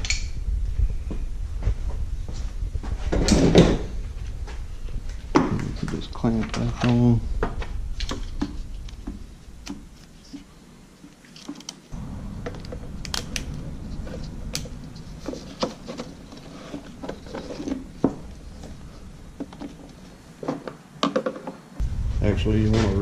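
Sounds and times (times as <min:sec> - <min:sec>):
low steady hum: 0:00.0 - 0:11.2, 0:11.9 - 0:20.5, 0:21.8 - 0:23.0.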